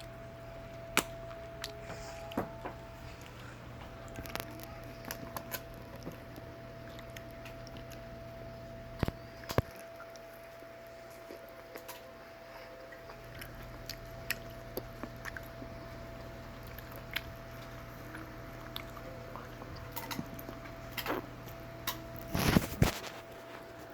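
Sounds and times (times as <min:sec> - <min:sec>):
dog crunching bones: 0:00.7 - 0:12.2, 0:12.9 - 0:23.2.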